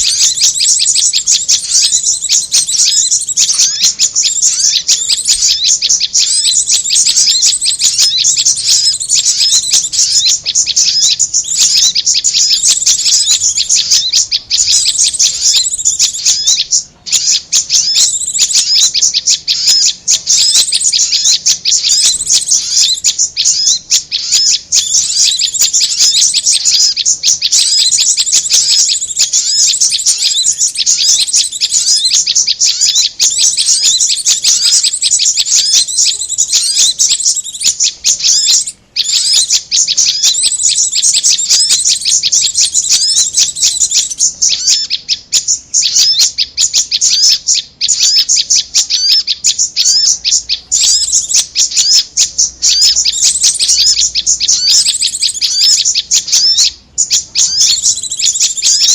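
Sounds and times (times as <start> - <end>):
high-pitched bird chirping: 0.0 - 58.9.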